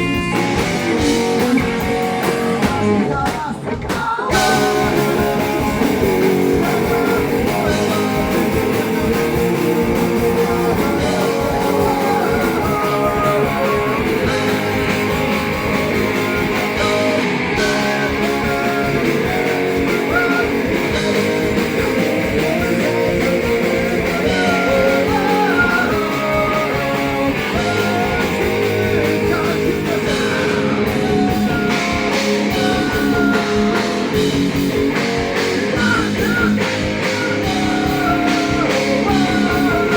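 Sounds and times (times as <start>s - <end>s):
electric guitar: 0.0s - 39.9s
rock band playing: 0.0s - 39.9s.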